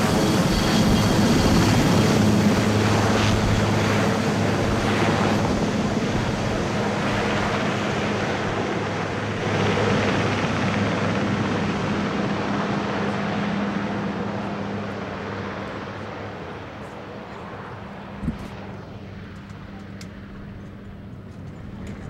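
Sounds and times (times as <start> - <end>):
helicopter rotor and engine: 0.0 - 22.0.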